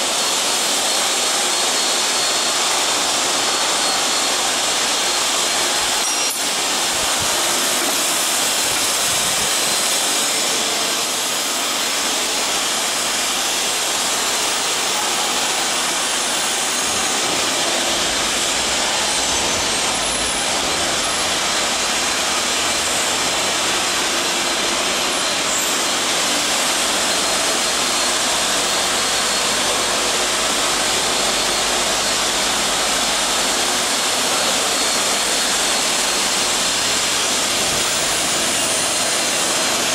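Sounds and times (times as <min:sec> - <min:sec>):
machinery workshop rushing noise: 0:00.0 - 0:39.9.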